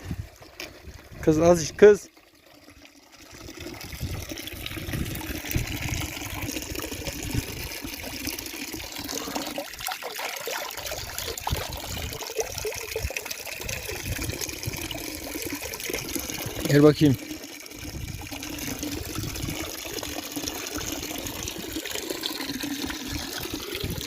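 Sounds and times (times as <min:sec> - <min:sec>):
water trickling and splashing: 0:00.0 - 0:24.0.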